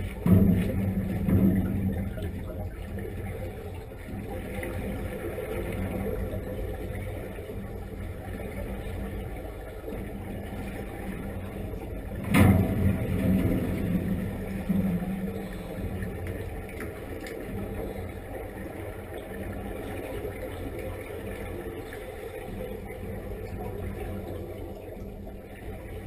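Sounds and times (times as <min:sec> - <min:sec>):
gush of bubbles: 0:00.0 - 0:26.0
underwater low hum: 0:00.0 - 0:26.0.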